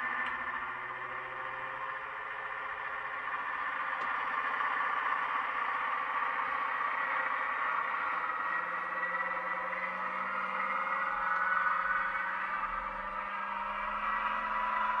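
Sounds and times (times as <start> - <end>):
diesel engine sound through speakers: 0.0 - 15.0.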